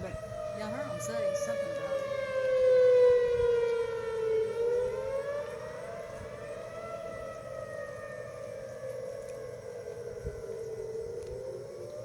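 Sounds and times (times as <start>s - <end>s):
warning siren wailing: 0.0s - 12.0s.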